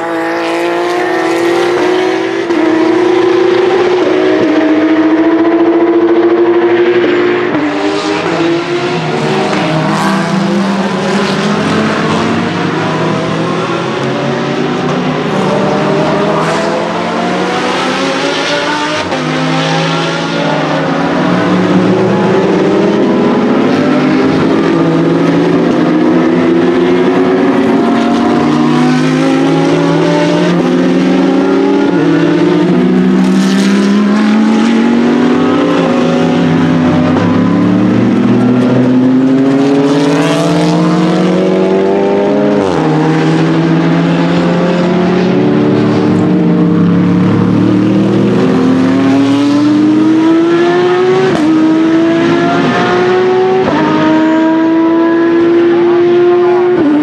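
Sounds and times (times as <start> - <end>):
race car engines accelerating: 0.0 - 57.0.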